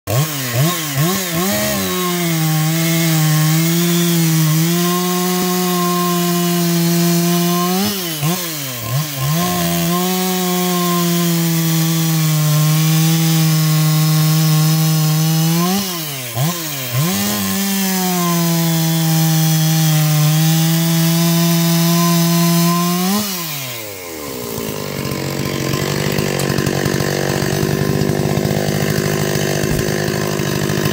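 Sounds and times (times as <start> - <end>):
chainsaw cutting wood: 0.1 - 30.9.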